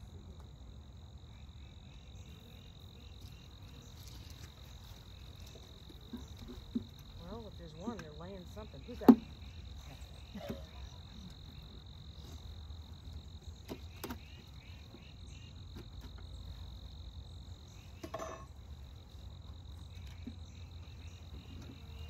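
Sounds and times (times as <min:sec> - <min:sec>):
insect chirps: 0:00.0 - 0:22.0
insects droning: 0:00.0 - 0:22.0.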